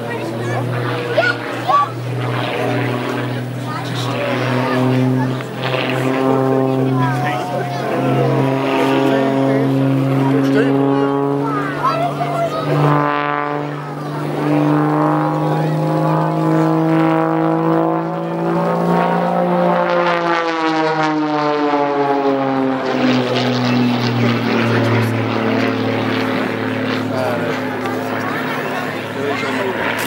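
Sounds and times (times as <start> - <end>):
propeller plane engine overhead: 0.0 - 30.0.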